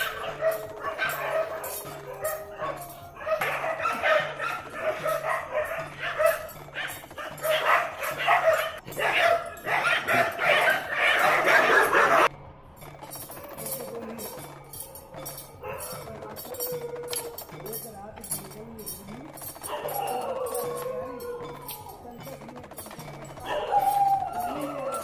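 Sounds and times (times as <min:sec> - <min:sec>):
dogs barking: 0:00.0 - 0:12.3, 0:13.0 - 0:25.0.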